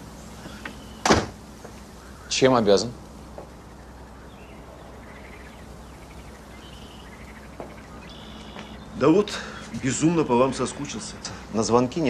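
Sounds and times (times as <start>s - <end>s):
faint birdsong: 0.0s - 12.0s
steady low hum: 0.0s - 12.0s.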